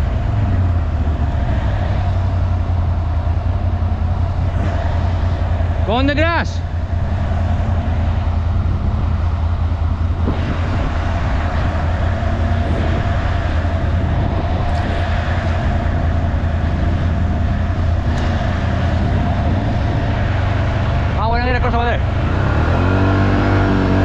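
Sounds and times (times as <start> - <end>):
atv engine droning: 0.0 - 24.0.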